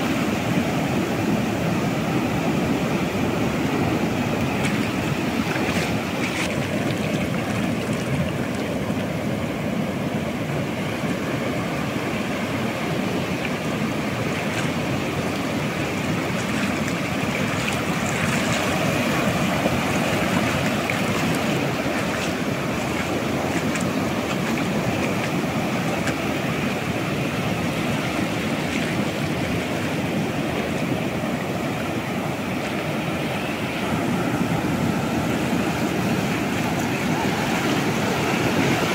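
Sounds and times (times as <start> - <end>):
surf breaking on beach: 0.0 - 38.9
wind on microphone: 0.0 - 38.9.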